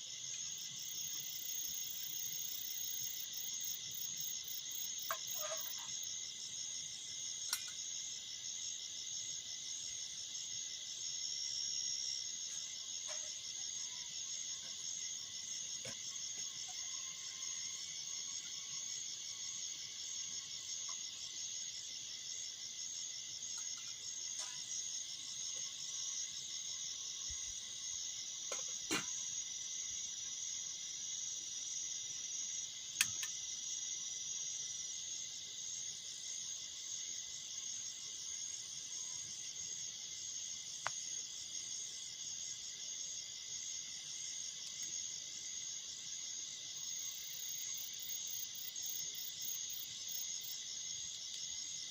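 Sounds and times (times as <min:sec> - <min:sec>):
crickets chirring: 0:00.0 - 0:51.9.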